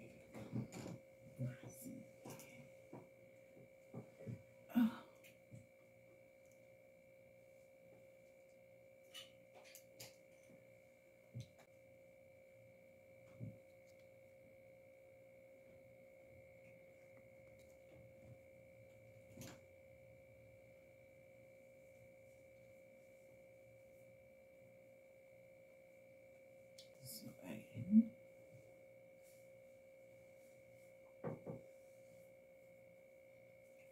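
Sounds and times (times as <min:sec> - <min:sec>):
faint two-pitch whine: 0:00.4 - 0:33.9.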